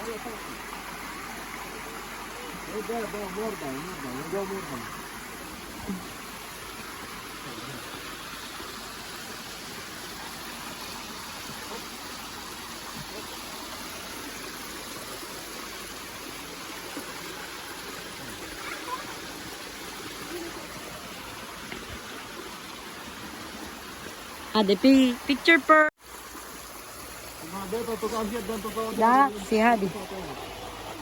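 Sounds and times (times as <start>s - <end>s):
waterfall and stream rushing: 0.0s - 31.0s.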